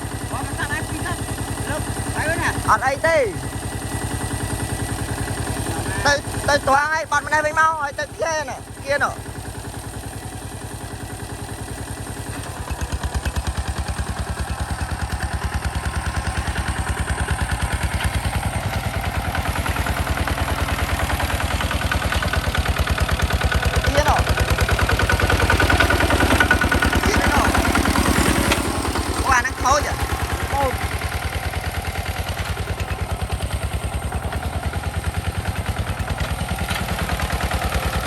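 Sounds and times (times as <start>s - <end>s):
hand tractor engine running: 0.0s - 38.0s.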